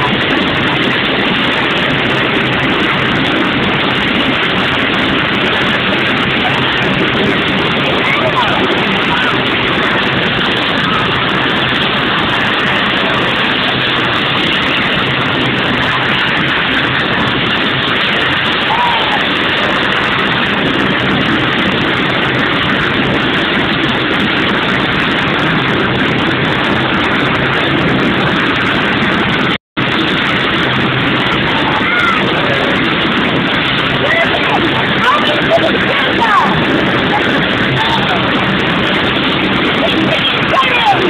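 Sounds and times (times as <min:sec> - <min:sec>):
faint voices: 0:00.0 - 0:24.6, 0:30.2 - 0:41.0
helicopter running: 0:00.0 - 0:41.0.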